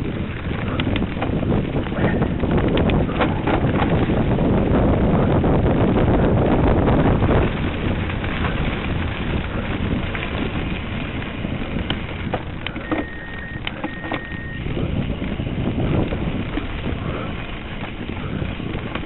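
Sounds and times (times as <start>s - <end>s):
bike rattling clicks: 0.0s - 4.4s, 7.3s - 19.0s
low steady rumble: 0.0s - 19.0s
wind buffeting microphone: 0.0s - 19.0s.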